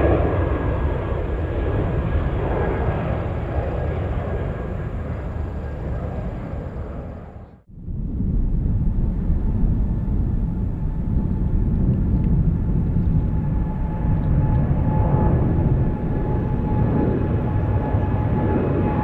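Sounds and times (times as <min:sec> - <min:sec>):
distant jet rumble: 0:00.0 - 0:19.0
wind on microphone: 0:00.0 - 0:19.0.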